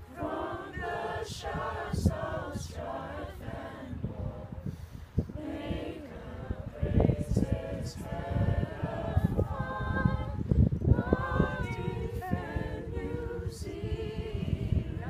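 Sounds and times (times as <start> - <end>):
choir singing unaccompanied: 0.0 - 15.0.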